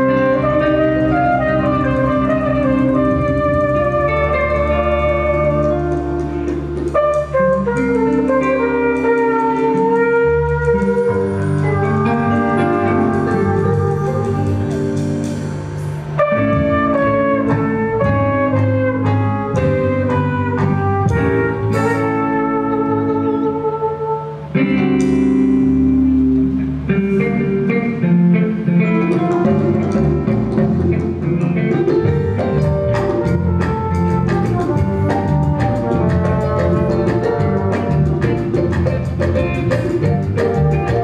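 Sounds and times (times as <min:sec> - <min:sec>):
trumpet: 0:00.0 - 0:26.4, 0:29.0 - 0:31.3, 0:32.4 - 0:41.0
live jazz band: 0:00.0 - 0:41.0.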